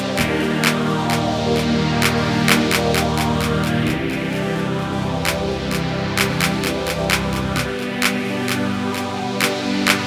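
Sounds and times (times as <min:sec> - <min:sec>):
crisp percussion beat: 0:00.0 - 0:04.3, 0:05.3 - 0:10.0
synth chords: 0:00.0 - 0:10.0.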